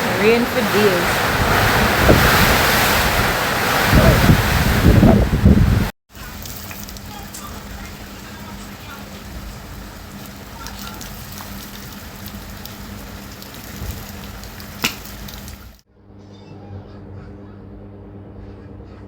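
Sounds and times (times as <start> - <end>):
heavy rain falling: 0.0 - 15.8.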